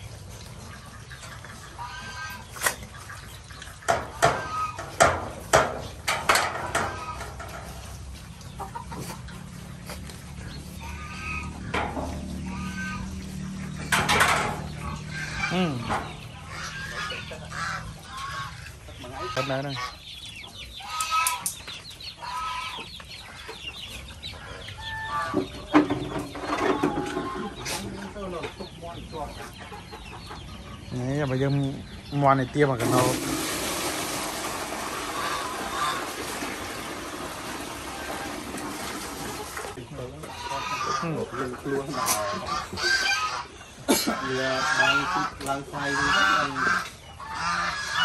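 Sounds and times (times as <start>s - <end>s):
chickens clucking: 0.0s - 48.0s
farm animals calling: 0.0s - 48.0s.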